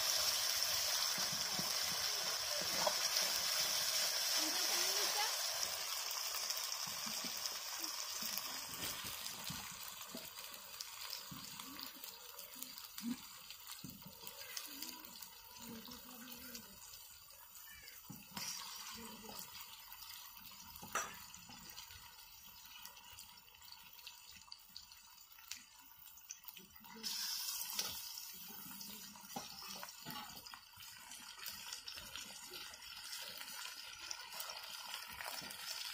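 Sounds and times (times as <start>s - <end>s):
masala sizzling in oil: 0.0s - 35.9s.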